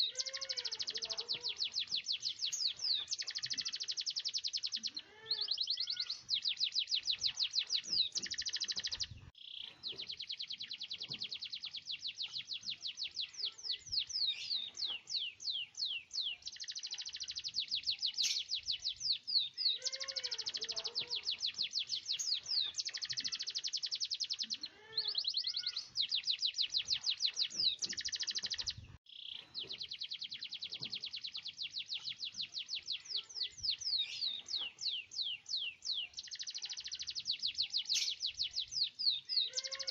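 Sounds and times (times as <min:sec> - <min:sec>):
canary singing rolling trills: 0:00.0 - 0:39.9
soft low bird chirps: 0:00.0 - 0:39.9.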